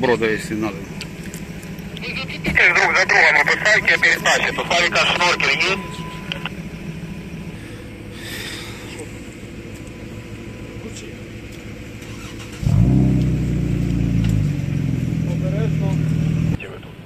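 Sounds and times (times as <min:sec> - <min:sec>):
distant engines rumbling: 0:00.0 - 0:17.0
loud engine droning close by: 0:00.0 - 0:17.0.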